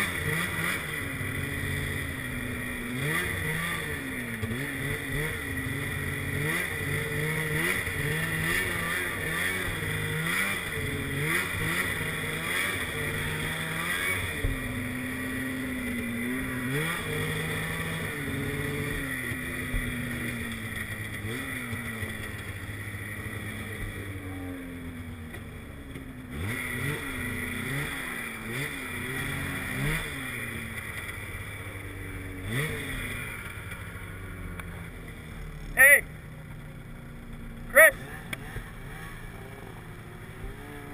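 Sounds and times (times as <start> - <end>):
snowmobile engine revving: 0.0 - 36.1, 37.2 - 40.9.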